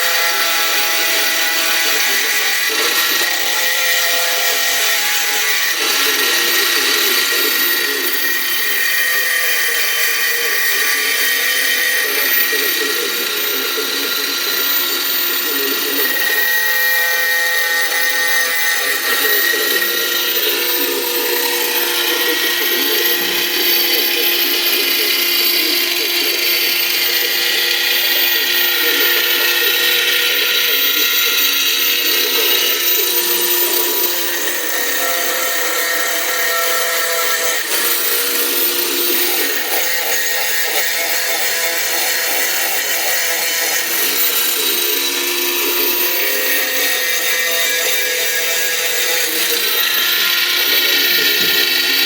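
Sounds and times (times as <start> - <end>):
power tool motor whining: 0.0 - 52.0.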